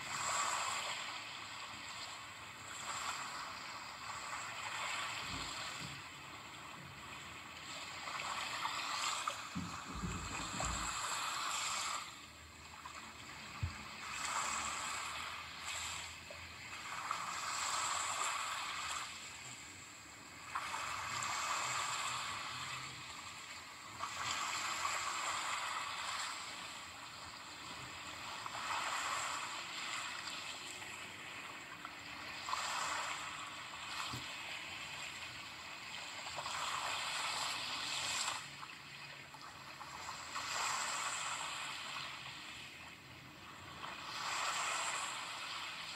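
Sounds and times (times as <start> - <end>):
ocean waves washing in: 0.0 - 45.9.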